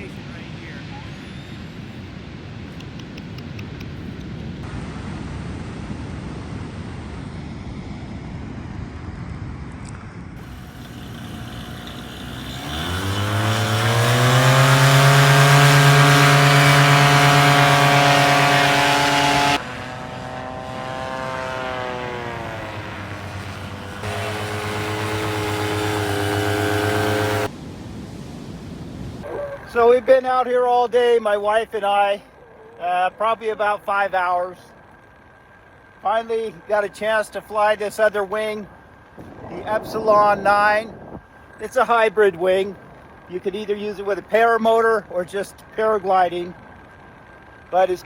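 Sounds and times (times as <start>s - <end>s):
paramotor engine and propeller: 0.0s - 30.0s, 32.2s - 48.0s.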